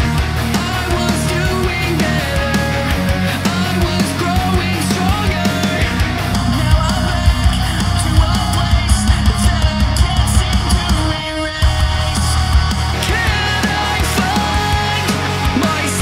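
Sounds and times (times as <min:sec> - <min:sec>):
distorted electric guitar: 0:00.0 - 0:16.0
steady drum beat: 0:00.0 - 0:16.0.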